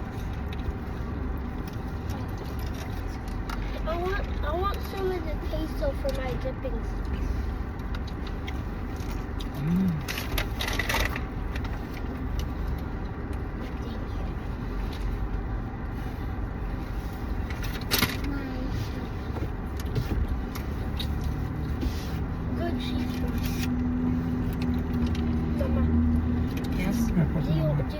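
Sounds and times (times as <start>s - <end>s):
car cabin rumble: 0.0s - 27.9s.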